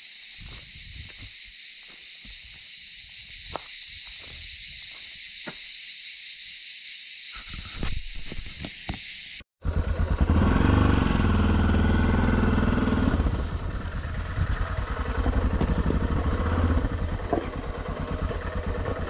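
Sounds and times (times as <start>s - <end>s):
cicadas chorus: 0.0s - 10.6s, 13.1s - 19.0s.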